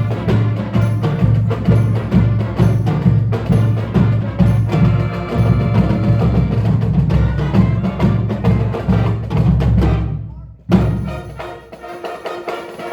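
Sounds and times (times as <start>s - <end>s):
wood-block-like percussion strikes: 0.0s - 10.1s, 10.7s - 12.9s.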